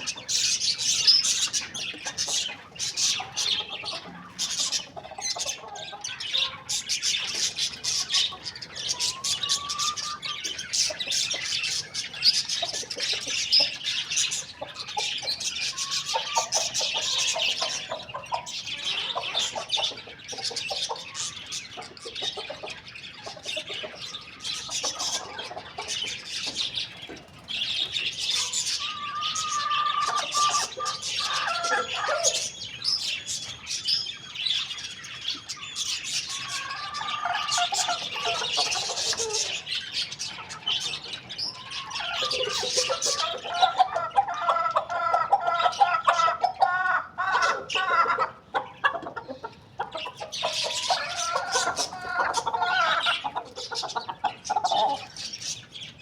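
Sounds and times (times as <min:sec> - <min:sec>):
chickens calling: 0:00.0 - 0:56.0
small birds chirping: 0:00.0 - 0:56.0.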